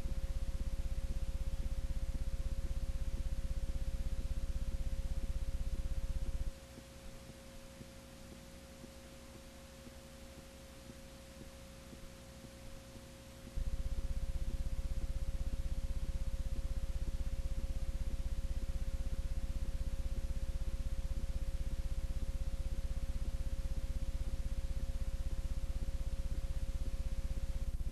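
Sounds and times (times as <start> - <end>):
loud low electrical buzz: 0.0 - 27.9
tape hiss: 0.0 - 27.9.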